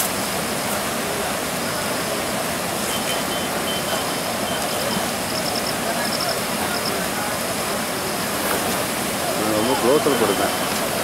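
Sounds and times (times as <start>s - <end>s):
water rushing over spillway: 0.0s - 11.0s.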